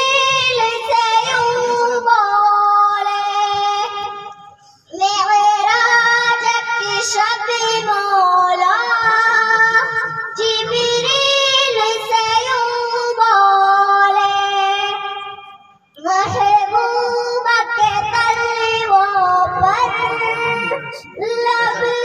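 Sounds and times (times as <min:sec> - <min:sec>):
girls singing into microphones: 0:00.0 - 0:15.4, 0:16.0 - 0:22.0.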